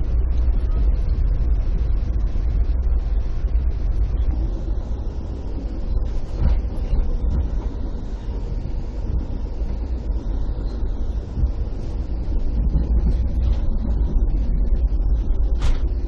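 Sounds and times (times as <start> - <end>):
train rumbling inside coach: 0.0 - 16.0.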